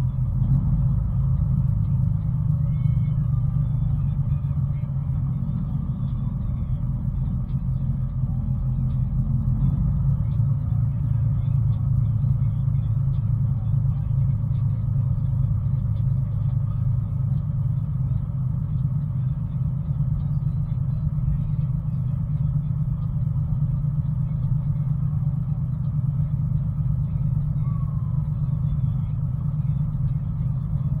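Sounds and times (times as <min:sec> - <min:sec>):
truck engine and road drone: 0:00.0 - 0:31.0.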